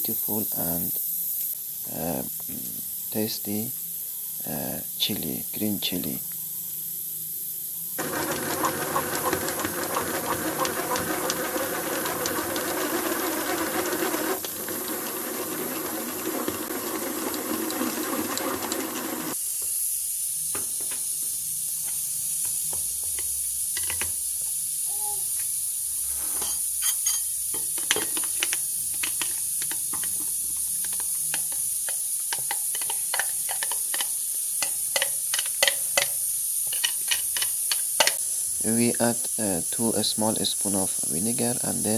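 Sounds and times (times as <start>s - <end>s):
pressure cooker hissing steam: 0.0s - 41.9s.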